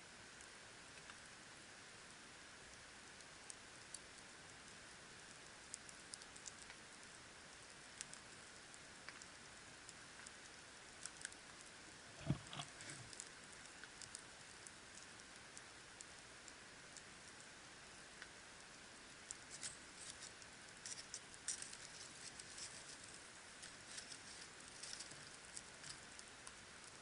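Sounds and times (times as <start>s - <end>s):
low hiss of fire: 0.0s - 27.0s
campfire crackling: 0.1s - 27.0s.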